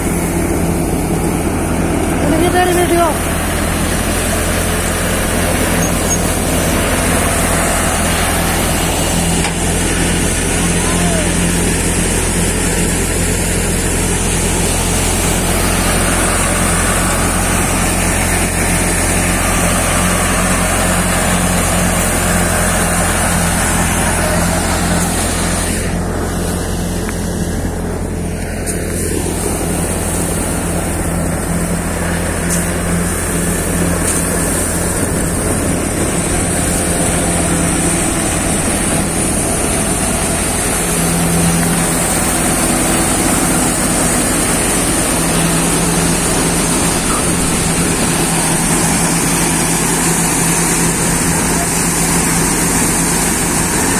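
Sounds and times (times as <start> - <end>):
thresher drum whirring: 0.0 - 53.9
tractor engine running: 0.0 - 53.9.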